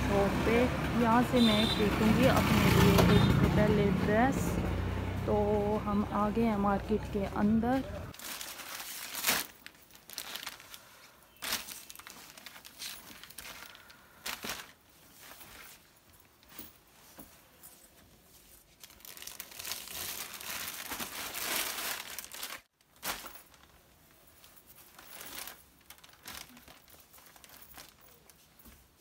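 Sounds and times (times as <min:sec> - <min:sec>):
fabric and plastic wrapping rustling: 0:05.5 - 0:29.0.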